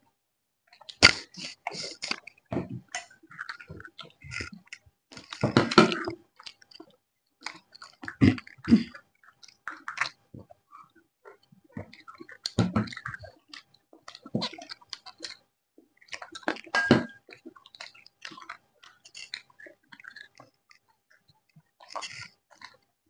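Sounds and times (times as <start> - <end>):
crunchy chewing of fried food: 0.7 - 23.0.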